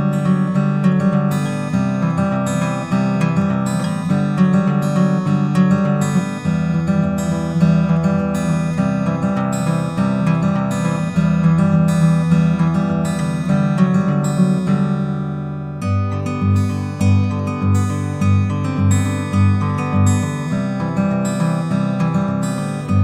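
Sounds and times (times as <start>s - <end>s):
strummed acoustic guitar chords: 0.0s - 23.0s.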